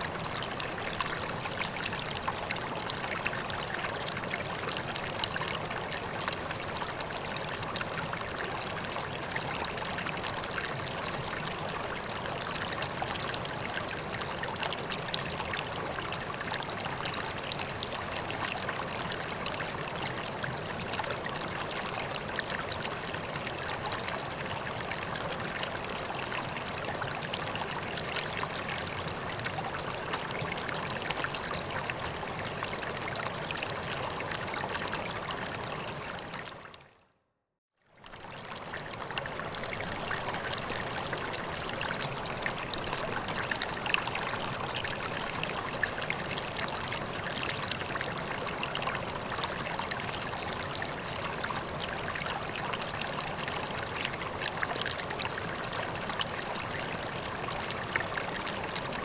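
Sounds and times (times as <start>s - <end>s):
pond water running and trickling: 0.0s - 37.0s, 37.8s - 59.0s.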